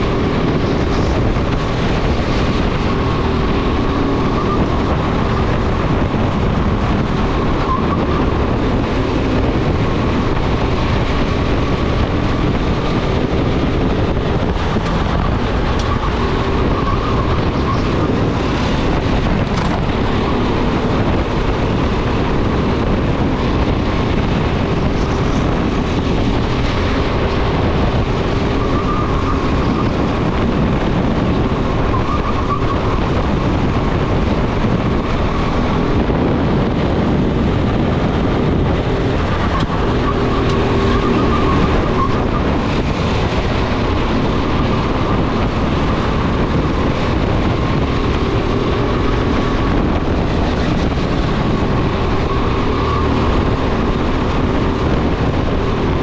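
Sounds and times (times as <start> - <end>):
go-kart engine running hard: 0.0 - 56.0
wind buffeting microphone: 0.0 - 56.0.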